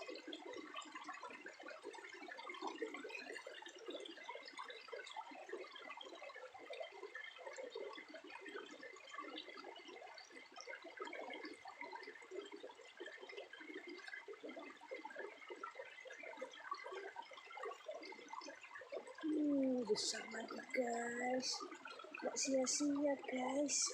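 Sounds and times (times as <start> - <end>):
water splashing and trickling: 0.0 - 23.9.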